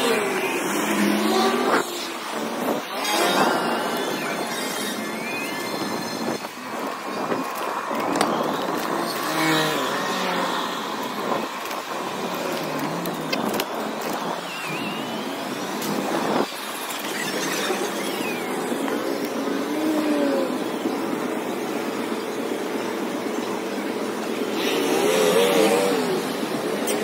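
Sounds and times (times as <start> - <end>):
traffic rushing: 0.0 - 27.0
wind noise: 0.1 - 23.9.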